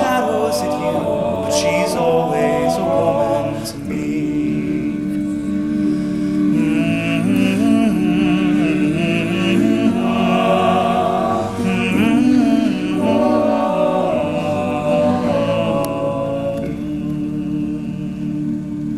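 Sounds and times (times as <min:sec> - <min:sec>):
male a cappella group singing: 0:00.0 - 0:18.9.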